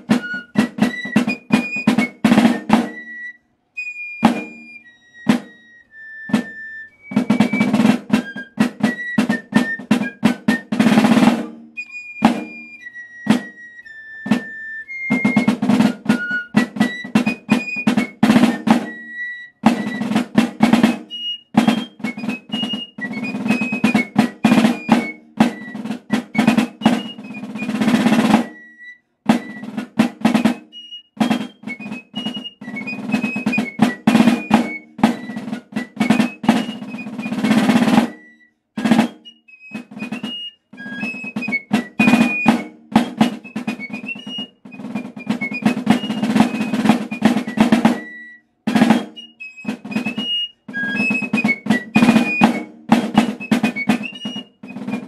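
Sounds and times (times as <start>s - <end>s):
drum rolls and strokes: 0.0s - 3.1s, 4.2s - 5.6s, 6.3s - 12.7s, 13.3s - 13.6s, 14.2s - 28.6s, 29.3s - 55.0s
piccolo melody: 0.0s - 55.0s.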